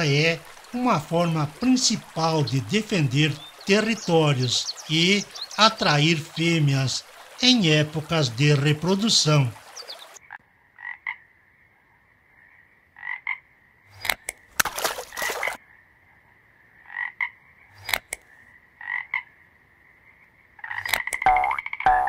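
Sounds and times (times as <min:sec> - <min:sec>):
frog croaking: 0:00.0 - 0:14.5, 0:15.2 - 0:22.0.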